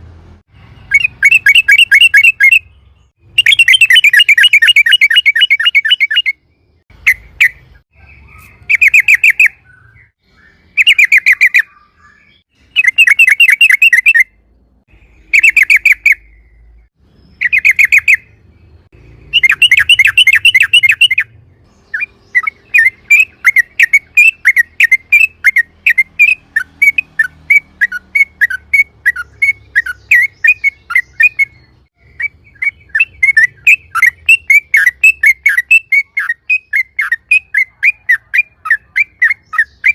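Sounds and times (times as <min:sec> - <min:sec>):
bird sharp chirps: 0:00.5 - 0:39.9.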